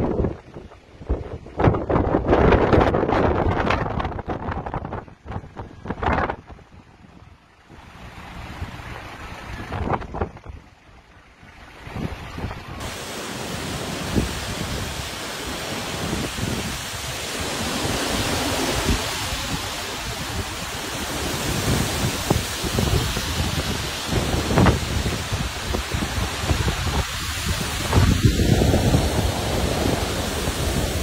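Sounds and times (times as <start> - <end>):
strong wind on microphone: 0.0 - 10.8, 11.5 - 31.0.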